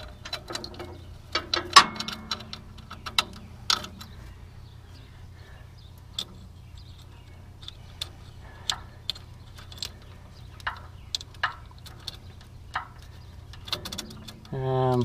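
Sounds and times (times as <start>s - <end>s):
roller chain clinking: 0.0s - 4.2s, 6.1s - 15.0s
steady low hum: 0.0s - 15.0s.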